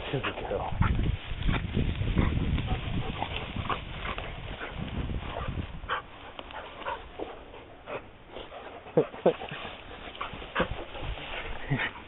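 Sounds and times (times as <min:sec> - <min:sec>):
rustling: 0:00.0 - 0:12.0
dogs play growling: 0:02.1 - 0:12.0.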